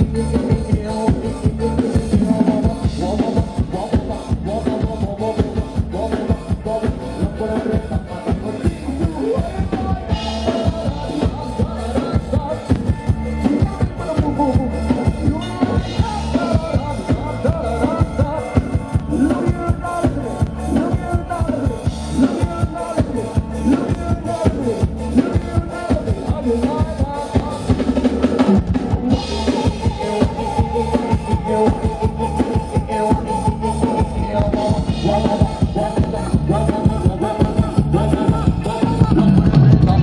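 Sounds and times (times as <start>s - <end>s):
live band over loudspeakers: 0.0s - 40.0s.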